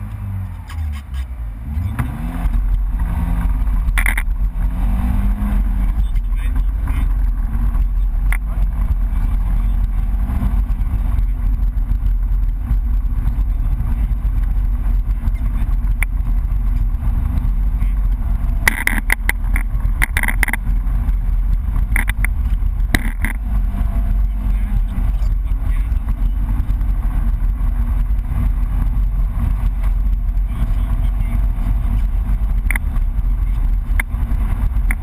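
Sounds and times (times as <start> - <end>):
car engine running: 0.0 - 35.0
road and tyre noise: 0.0 - 35.0.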